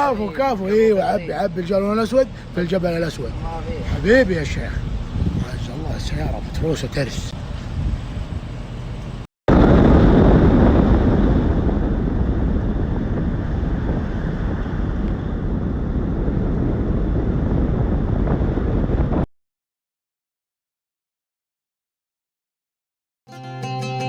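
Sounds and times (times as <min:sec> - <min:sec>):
wind buffeting microphone: 0:00.0 - 0:19.3.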